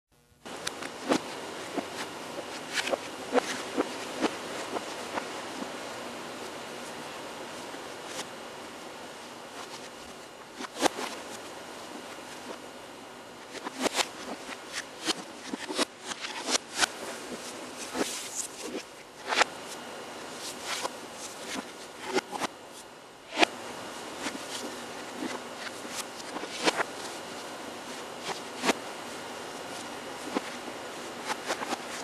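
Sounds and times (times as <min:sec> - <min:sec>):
steady background hiss: 0:00.2 - 0:32.0.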